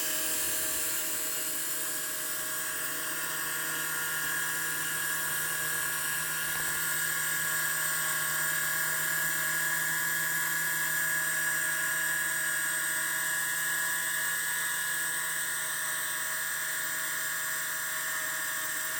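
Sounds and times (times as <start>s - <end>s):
spindle motor high whine: 0.0s - 18.9s.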